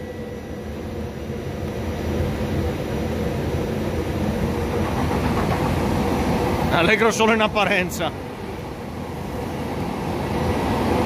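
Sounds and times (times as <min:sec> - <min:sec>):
electric train approaching: 0:00.0 - 0:11.0.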